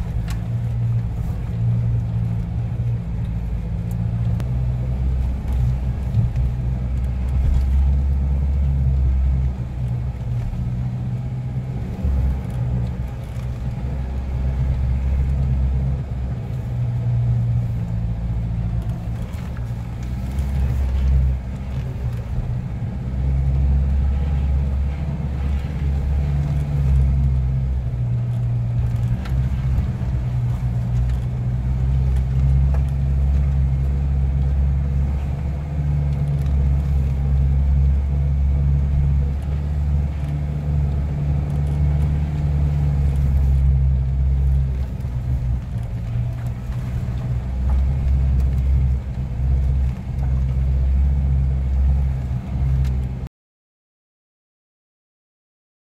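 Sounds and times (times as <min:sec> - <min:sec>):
engine and road rumble in car: 0:00.0 - 0:53.3.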